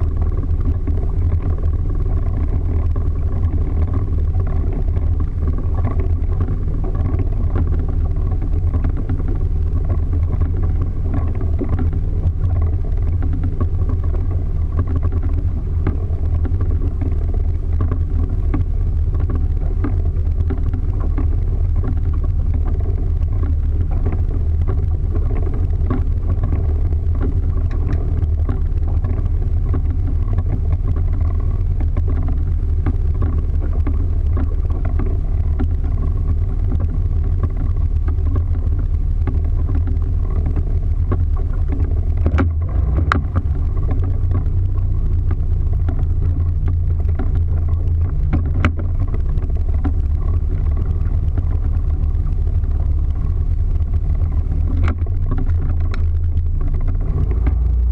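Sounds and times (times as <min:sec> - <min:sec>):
motorboat engine droning: 0:00.0 - 0:57.9
water against hull: 0:00.0 - 0:57.9.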